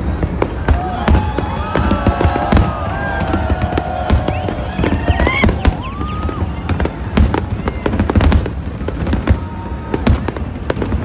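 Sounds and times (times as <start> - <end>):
fireworks bangs and crackles: 0.0 - 11.0
heavy firework booms: 0.0 - 11.0
rising firework whistle: 0.5 - 10.9.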